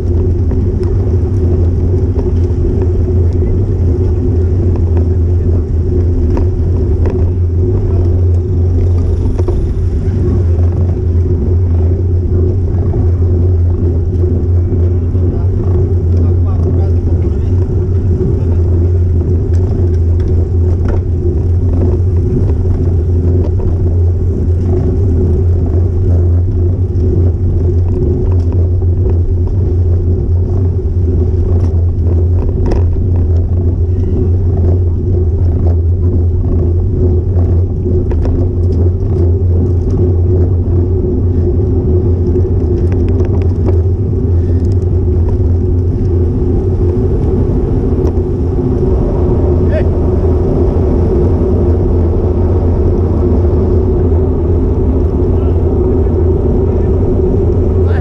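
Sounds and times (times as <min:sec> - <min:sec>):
wind rumbling on microphone: 0:00.0 - 0:58.0.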